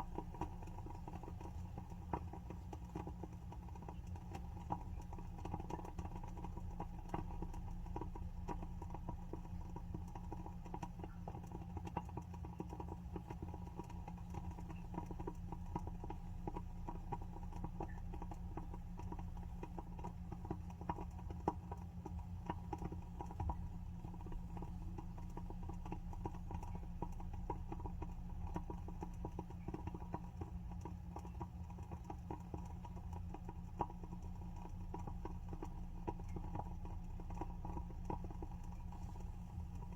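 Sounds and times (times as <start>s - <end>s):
steady low hum: 0.0s - 39.9s
wooden wick crackling: 0.0s - 39.9s.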